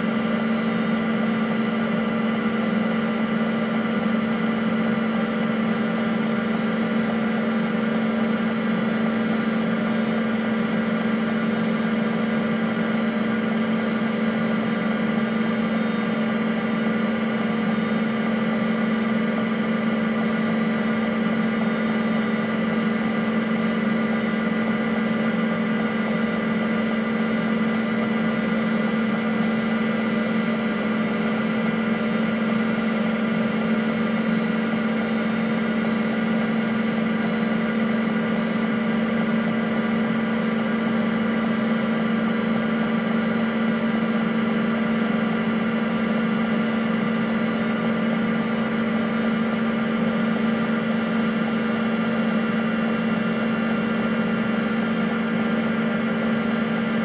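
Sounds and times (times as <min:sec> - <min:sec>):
computer fan and hard drive whir: 0:00.0 - 0:57.0.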